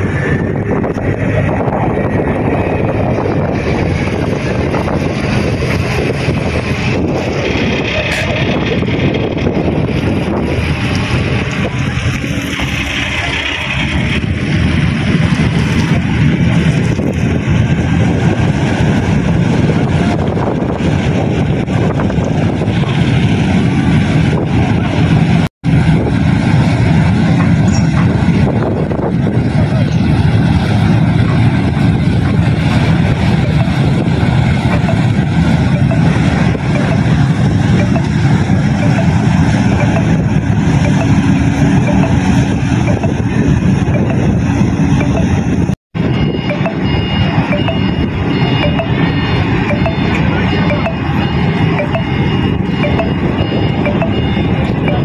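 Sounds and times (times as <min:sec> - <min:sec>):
ship engine rumble: 0:00.0 - 0:55.0
water rushing along hull: 0:00.0 - 0:55.0.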